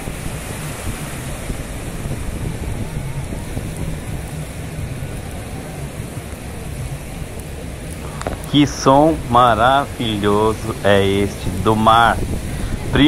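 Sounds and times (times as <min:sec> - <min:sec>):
sea surf breaking: 0:00.0 - 0:13.0
wind rumbling on microphone: 0:00.0 - 0:13.0.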